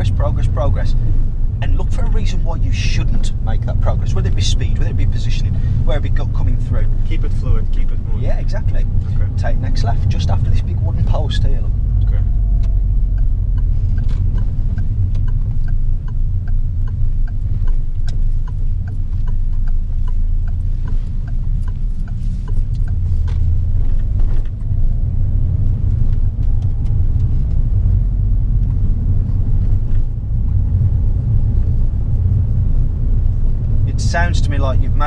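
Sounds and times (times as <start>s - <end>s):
car cabin rumble: 0.0s - 35.0s
turn indicator ticking: 0.0s - 35.0s.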